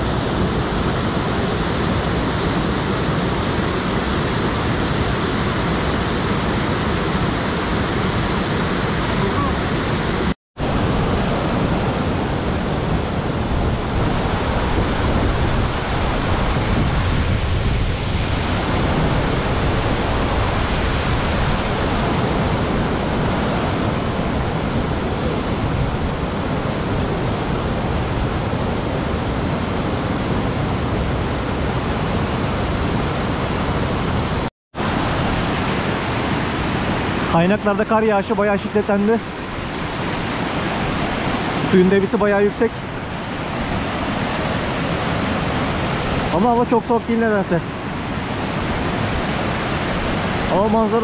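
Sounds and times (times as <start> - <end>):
fast-flowing water rushing: 0.0 - 51.0.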